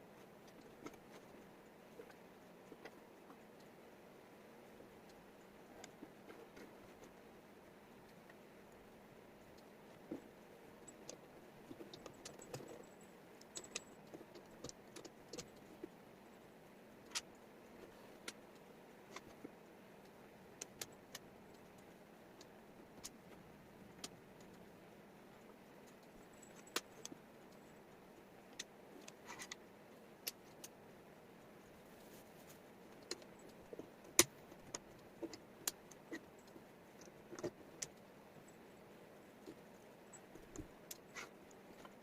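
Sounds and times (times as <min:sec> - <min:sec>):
faint steady hiss: 0:00.0 - 0:42.0.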